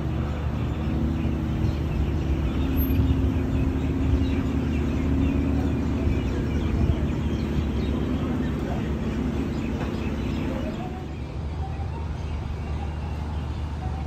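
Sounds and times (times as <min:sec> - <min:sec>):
cars driving slowly past: 0:00.0 - 0:14.0.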